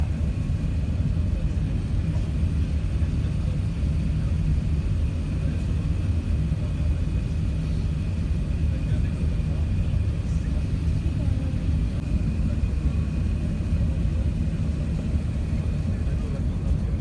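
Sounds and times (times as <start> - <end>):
engine and airflow rumble: 0.0 - 17.0.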